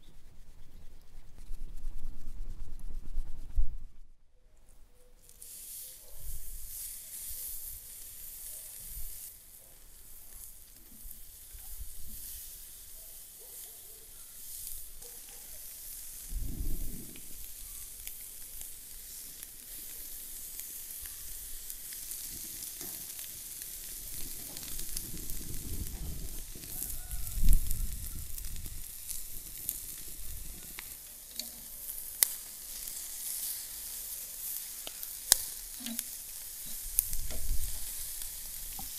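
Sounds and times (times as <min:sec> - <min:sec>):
meat sizzling on grill: 0:05.2 - 0:38.9.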